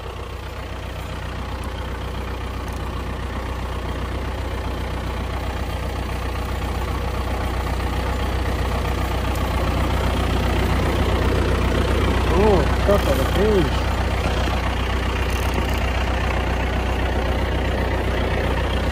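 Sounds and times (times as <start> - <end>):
tractor diesel engine idling: 0.0 - 18.9.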